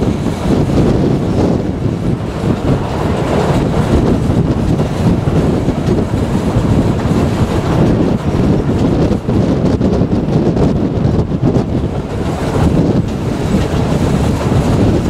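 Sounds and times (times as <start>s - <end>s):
steam train running: 0.0s - 15.0s
wind buffeting microphone: 0.0s - 15.0s.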